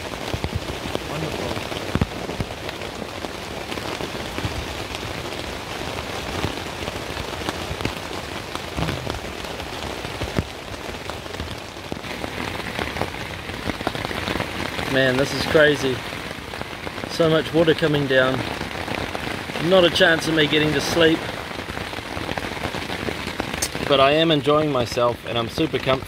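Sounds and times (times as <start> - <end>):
heavy rain on tent fly: 0.0 - 26.0.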